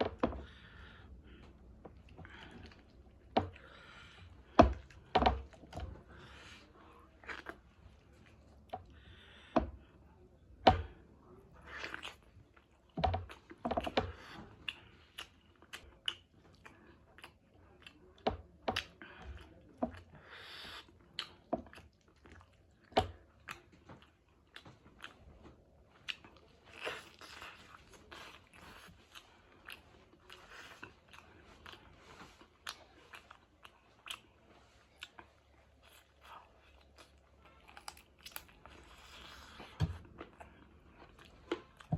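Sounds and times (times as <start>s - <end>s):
chewing and crunching: 0.0s - 41.9s.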